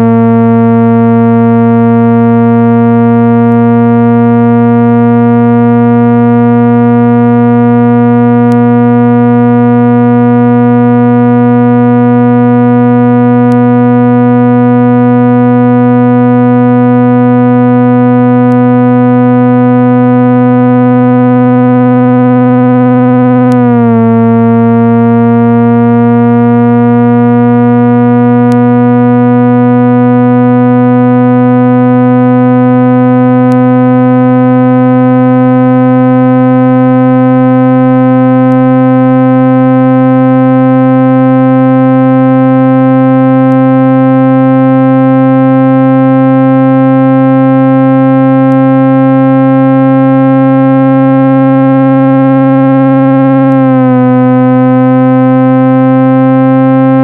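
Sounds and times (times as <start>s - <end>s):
synthesized speaker-cleaning tone: 0.0s - 57.0s.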